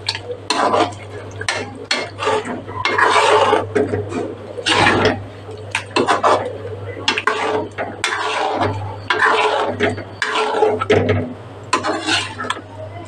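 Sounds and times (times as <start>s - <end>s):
metal spatula scraping a pan: 0.5s - 5.2s, 5.8s - 12.6s.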